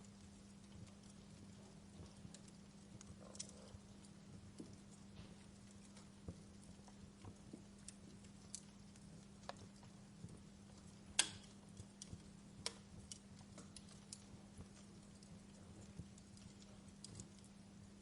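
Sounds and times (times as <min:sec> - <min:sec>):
faint low hum: 0:00.0 - 0:18.0
wood fire crackling: 0:00.0 - 0:18.0.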